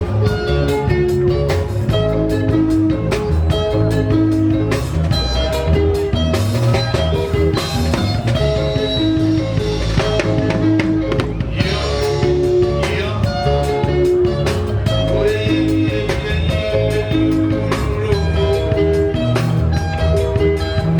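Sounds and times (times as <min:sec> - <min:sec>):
bass line: 0:00.0 - 0:20.9
driving drum beat: 0:00.0 - 0:20.9
lead guitar playing quick notes: 0:00.0 - 0:20.9.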